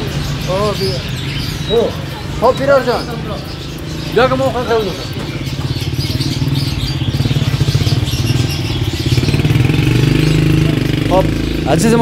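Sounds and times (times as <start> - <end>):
engine with fast pulsing beat: 0.0 - 12.0.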